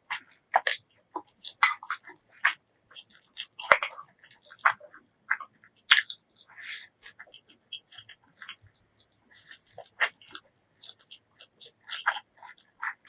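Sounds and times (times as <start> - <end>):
mouth chewing food: 0.0 - 13.0.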